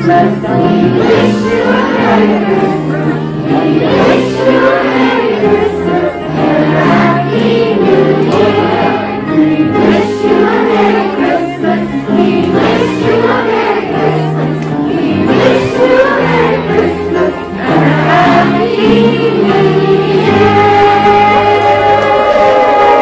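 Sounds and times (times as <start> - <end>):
children's choir singing: 0.0 - 23.0
piano accompaniment: 0.0 - 23.0.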